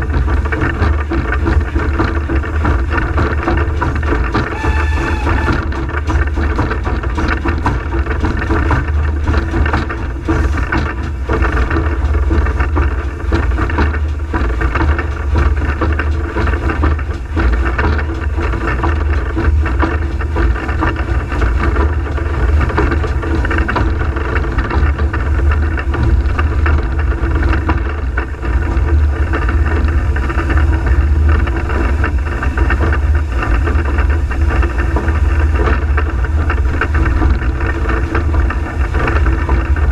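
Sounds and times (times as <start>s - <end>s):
steam locomotive rumbling: 0.0s - 39.9s.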